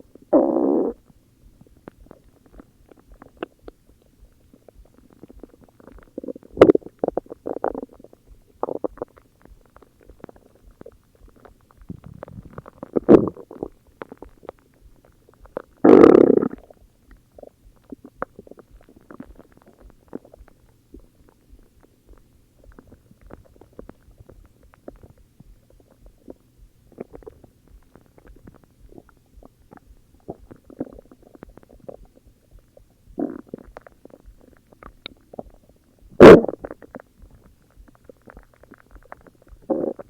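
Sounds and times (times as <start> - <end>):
stomach growling: 0.0 - 40.0
stomach gurgles: 0.0 - 40.0.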